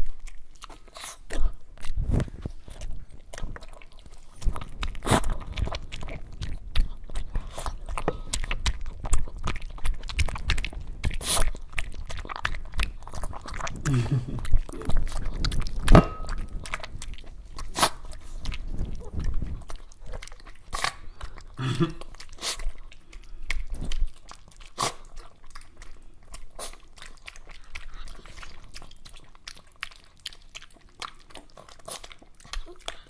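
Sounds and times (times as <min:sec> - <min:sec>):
dogs crunching treats: 0:00.0 - 0:33.0.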